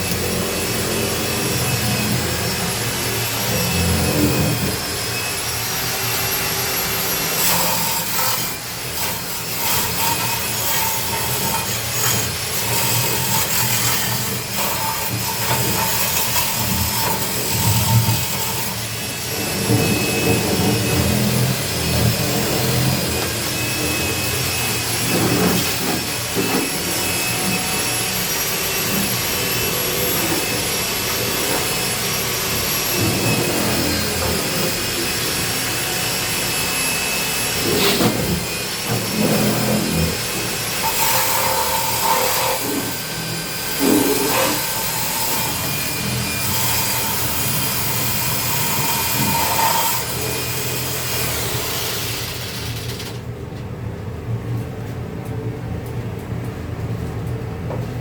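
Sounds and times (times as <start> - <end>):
vacuum running with high whine: 0.0 - 58.0.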